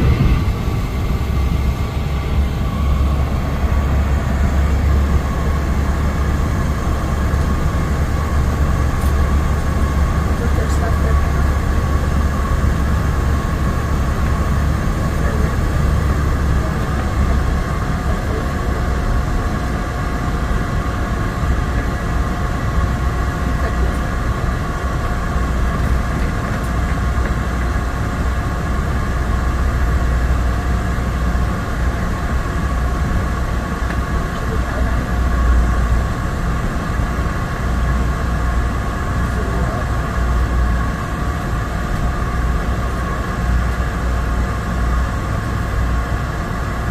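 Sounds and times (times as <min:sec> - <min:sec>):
engine whine: 0:00.0 - 0:46.9
turboprop engine drone: 0:00.0 - 0:46.9.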